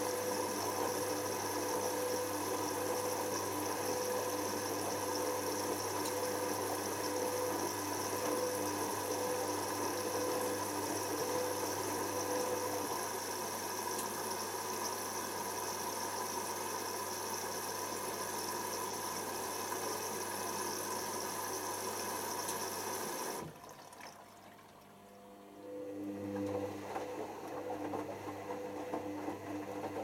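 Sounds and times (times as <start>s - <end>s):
washer dryer drain pump humming: 0.0s - 30.0s.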